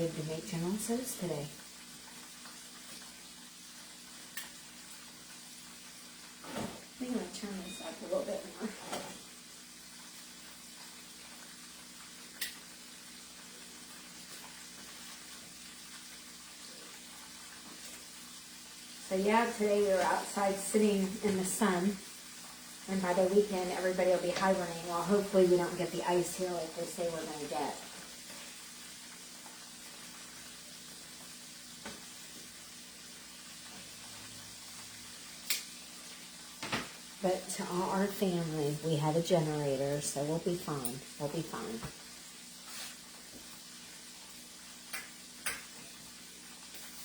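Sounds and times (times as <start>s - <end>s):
chicken frying in hot oil: 0.0s - 47.0s.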